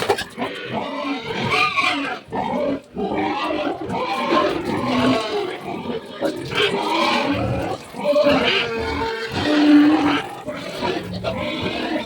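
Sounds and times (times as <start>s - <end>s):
pigs crying: 0.0s - 12.0s.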